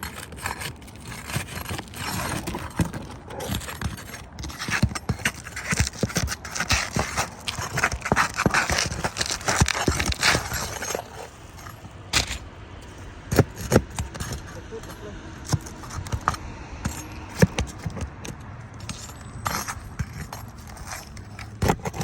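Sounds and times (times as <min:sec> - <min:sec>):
irregular scraping: 0:00.0 - 0:22.0.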